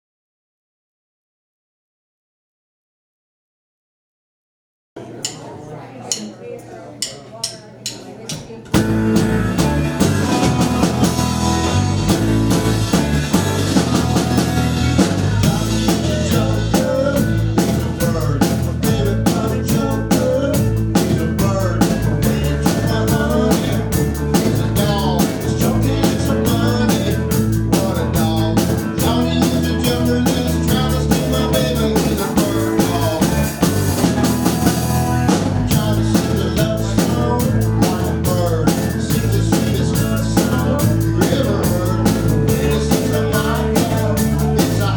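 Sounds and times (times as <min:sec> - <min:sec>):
drum kit beat with rimshots: 0:07.0 - 0:44.9
bass line: 0:08.8 - 0:44.9.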